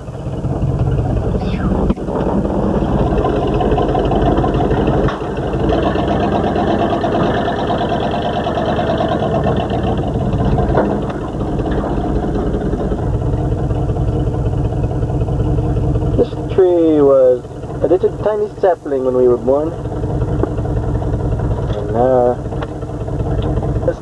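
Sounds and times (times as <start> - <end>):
road noise: 0.0 - 24.0
truck engine running: 0.0 - 24.0.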